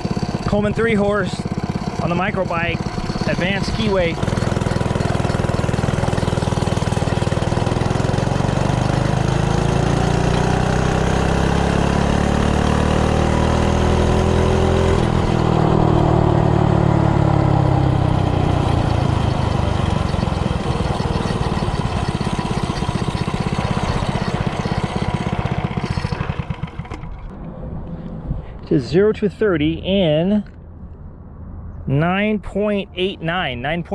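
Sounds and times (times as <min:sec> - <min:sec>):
minibike engine revving: 0:00.0 - 0:27.3.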